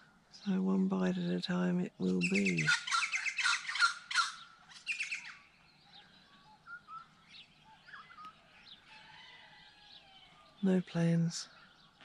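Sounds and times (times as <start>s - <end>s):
faint bird chirps: 2.0s - 12.0s
harsh bird calls: 2.1s - 12.0s.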